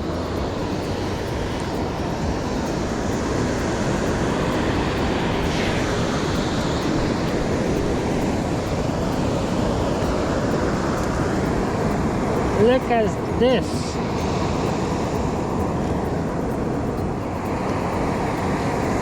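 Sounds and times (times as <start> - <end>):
ocean surf on a beach: 0.0 - 19.0
wind rumbling on microphone: 0.0 - 19.0.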